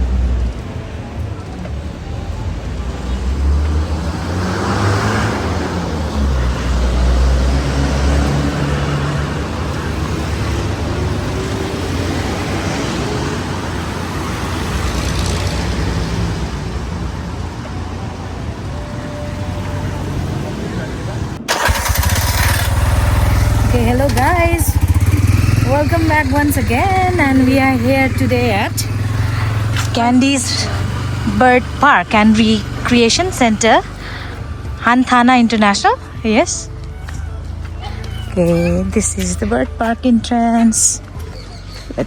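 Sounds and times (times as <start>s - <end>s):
vehicle engine rumble: 0.0s - 42.0s.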